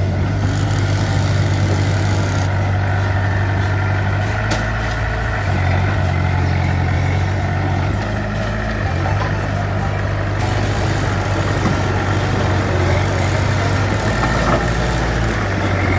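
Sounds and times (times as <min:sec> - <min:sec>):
heavy diesel engine running: 0:00.0 - 0:15.9.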